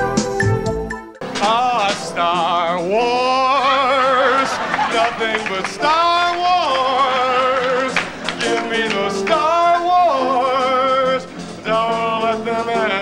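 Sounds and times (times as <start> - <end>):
instrumental backing: 0.0 - 13.0
man singing with vibrato: 1.2 - 13.0.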